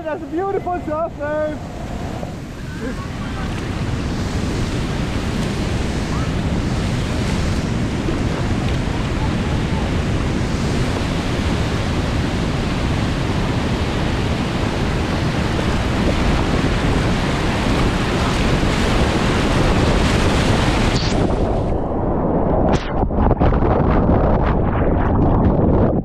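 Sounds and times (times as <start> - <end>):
river whitewater roaring: 0.0 - 21.6.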